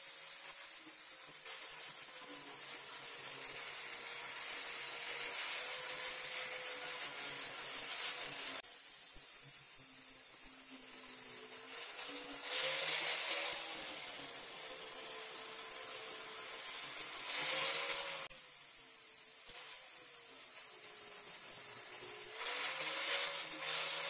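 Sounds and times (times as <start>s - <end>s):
angle grinder on metal: 0.0s - 24.0s.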